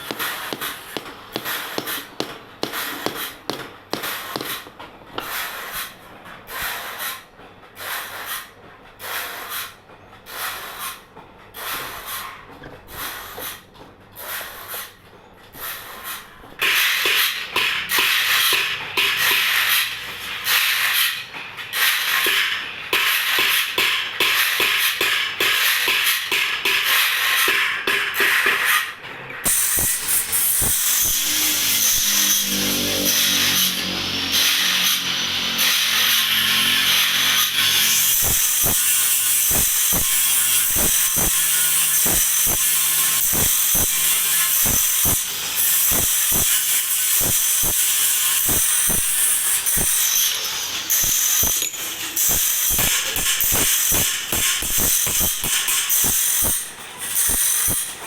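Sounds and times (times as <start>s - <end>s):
rasping bandsaw strokes: 0.0s - 58.0s.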